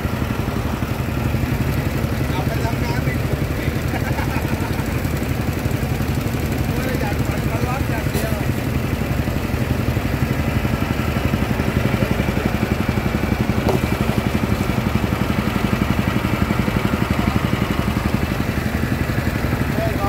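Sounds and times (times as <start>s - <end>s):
stationary engine running: 0.0s - 20.0s.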